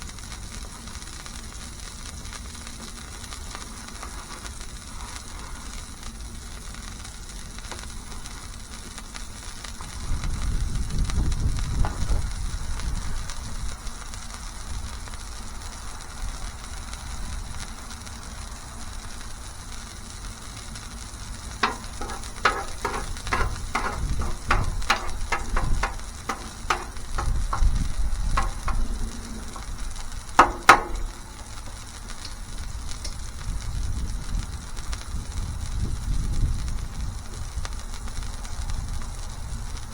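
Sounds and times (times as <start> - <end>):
patties sizzling on a griddle: 0.0 - 39.9.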